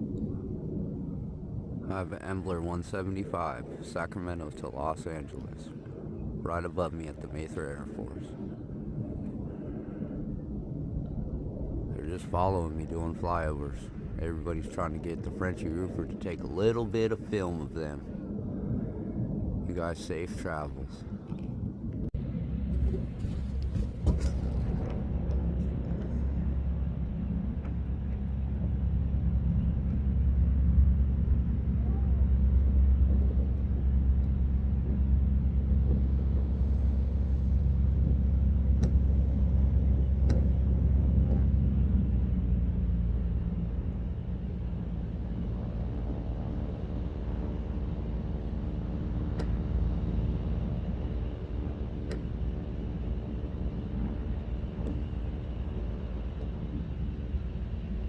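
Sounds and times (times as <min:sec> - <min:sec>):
aircraft rumble overhead: 0:00.0 - 0:58.0.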